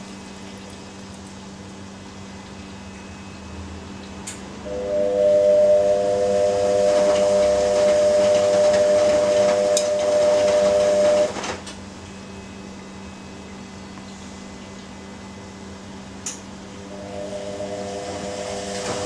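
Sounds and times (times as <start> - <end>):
washing machine whistling hiss: 2.5 - 19.0.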